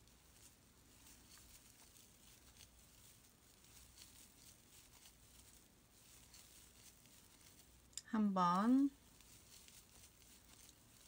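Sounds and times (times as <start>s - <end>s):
crochet hook rustling yarn: 0.0s - 11.0s.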